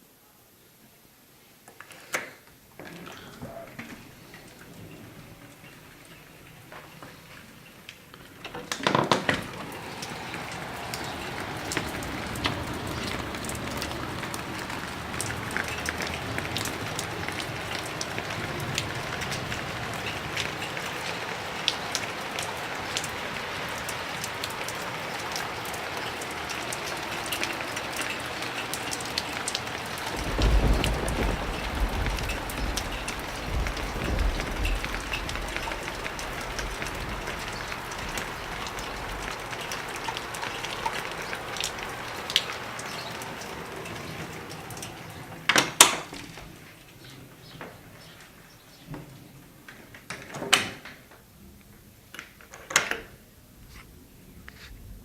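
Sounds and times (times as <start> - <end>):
heavy rain: 0.0 - 55.0
raindrops pattering on hard surfaces: 1.6 - 55.0
thunder rumble: 2.8 - 48.0.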